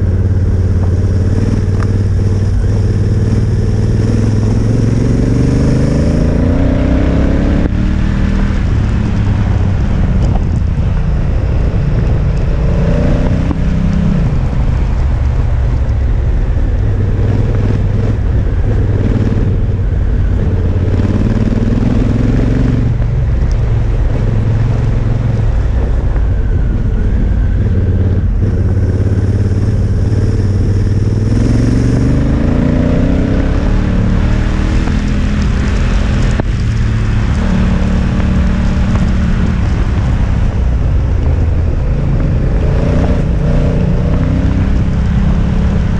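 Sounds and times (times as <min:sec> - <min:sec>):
motorcycle engine running: 0:00.0 - 0:45.9
wind and road noise: 0:00.0 - 0:45.9.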